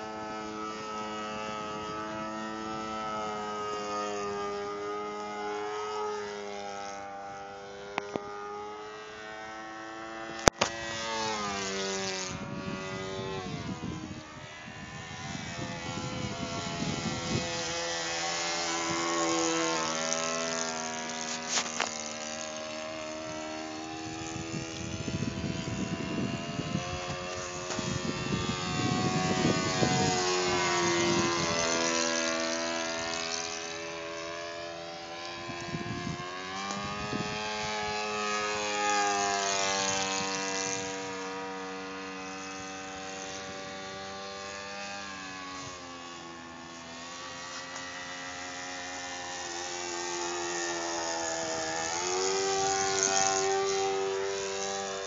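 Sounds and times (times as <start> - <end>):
model airplane engine buzzing: 0.0 - 55.0.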